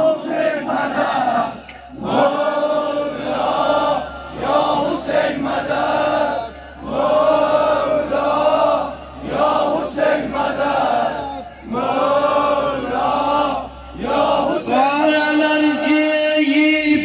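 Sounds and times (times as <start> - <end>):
crowd of men chanting: 0.0 - 17.0.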